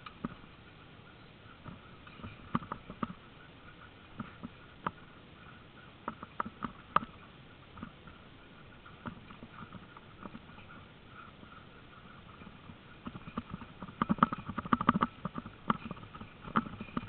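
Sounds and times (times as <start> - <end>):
rig rattling over uneven ground: 0.0 - 17.0.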